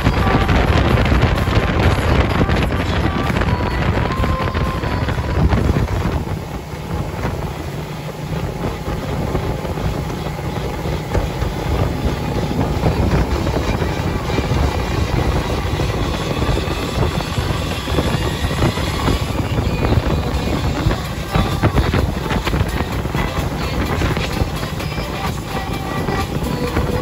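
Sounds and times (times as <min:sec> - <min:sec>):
motorboat engine drone: 0:00.0 - 0:27.0
rushing water: 0:00.0 - 0:27.0
wind buffeting microphone: 0:00.0 - 0:27.0.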